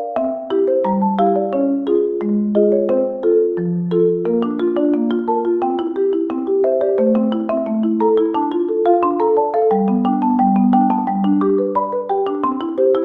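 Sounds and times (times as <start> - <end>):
marimba-like melody: 0.0 - 13.0.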